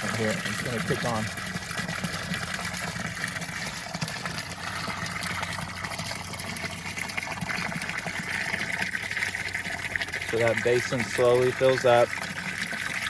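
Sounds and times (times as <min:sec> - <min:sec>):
water from hose filling basin: 0:00.0 - 0:13.0.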